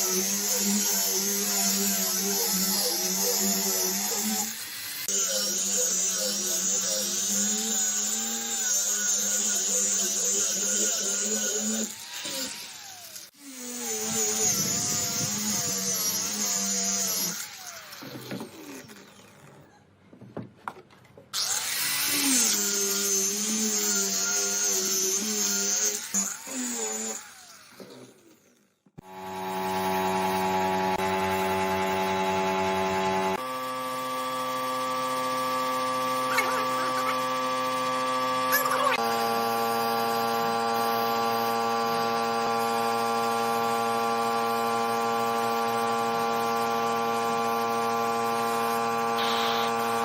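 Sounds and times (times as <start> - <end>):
power tool motor whine: 0.0 - 19.7, 21.4 - 50.0.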